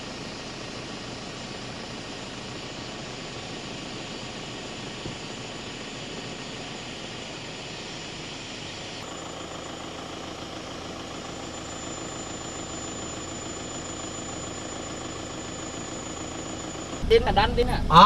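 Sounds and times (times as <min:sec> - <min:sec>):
engine idling with high whine: 0:00.0 - 0:18.0.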